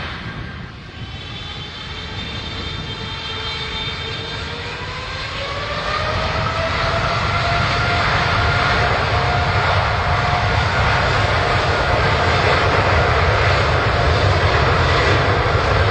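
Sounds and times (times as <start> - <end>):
jet engines whining: 0.0 - 15.9.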